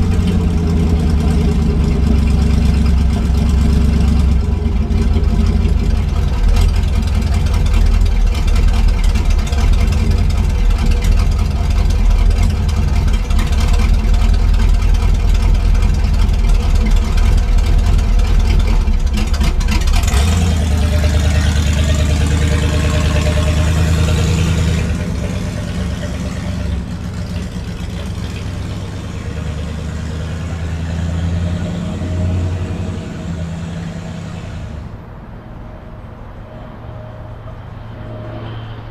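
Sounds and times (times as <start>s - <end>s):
car engine deep rumble: 0.0s - 38.9s.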